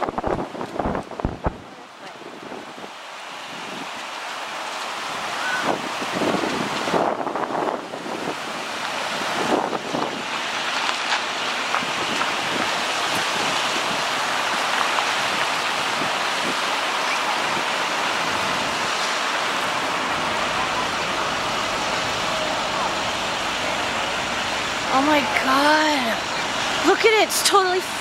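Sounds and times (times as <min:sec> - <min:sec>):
floodwater rushing: 0:00.0 - 0:28.0
wind blowing: 0:00.0 - 0:28.0.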